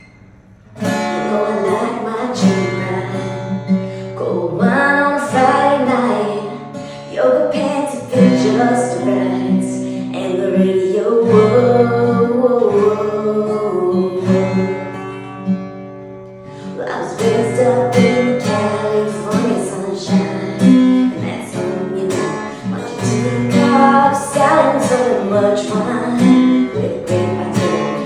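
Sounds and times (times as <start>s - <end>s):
acoustic guitar: 0.0s - 28.0s.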